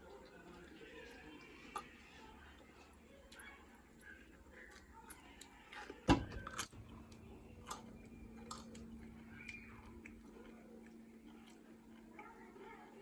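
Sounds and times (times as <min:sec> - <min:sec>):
person chewing food: 0:00.0 - 0:12.4.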